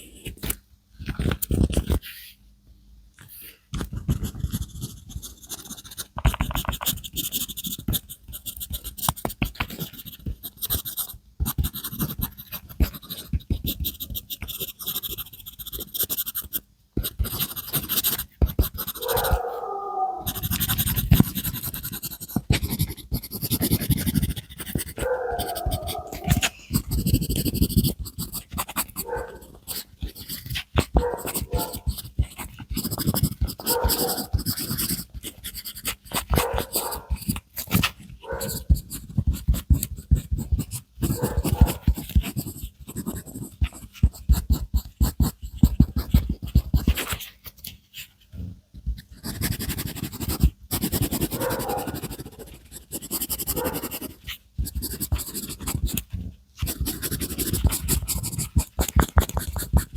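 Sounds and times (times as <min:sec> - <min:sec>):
drawing tool scratching on paper: 0:03.9 - 0:19.5, 0:20.2 - 0:47.4, 0:48.8 - 0:59.9.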